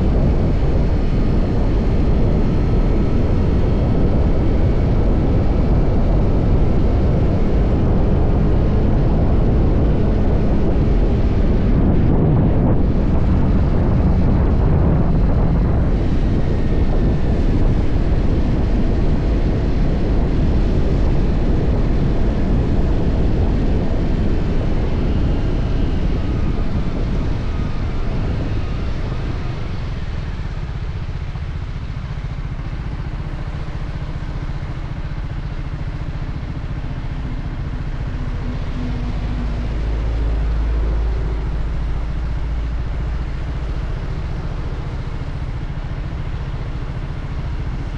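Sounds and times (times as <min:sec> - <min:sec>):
motorcycle engine running: 0:00.0 - 0:47.9
rushing wind and road noise: 0:00.0 - 0:47.9.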